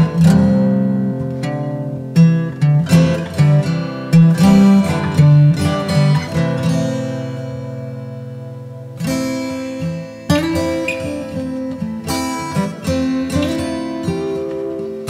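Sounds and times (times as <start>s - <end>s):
slow instrumental music with chords: 0.0s - 15.0s.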